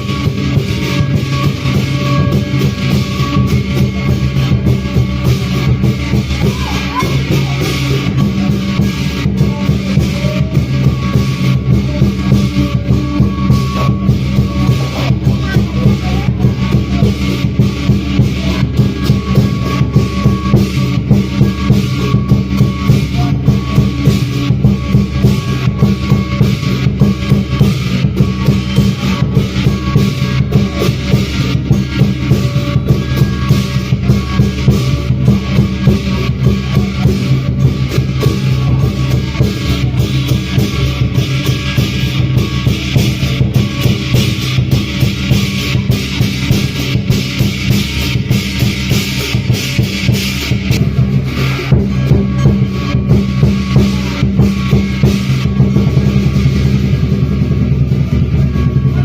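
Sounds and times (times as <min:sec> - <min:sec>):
crashing cymbals: 0:00.0 - 0:59.0
drum beating fast rhythm: 0:00.0 - 0:59.0.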